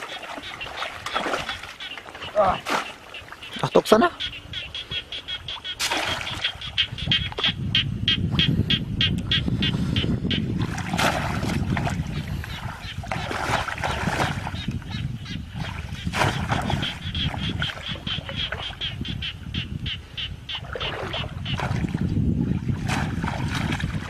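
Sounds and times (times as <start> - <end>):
muddy water splashing: 0.0 - 7.5, 9.9 - 19.3, 20.2 - 24.0.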